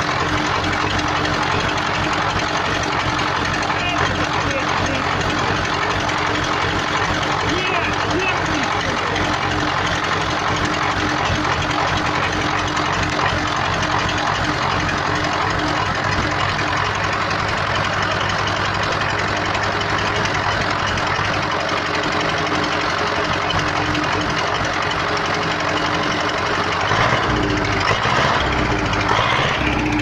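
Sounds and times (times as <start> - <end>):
diesel tractor engine idling: 0.0 - 30.0.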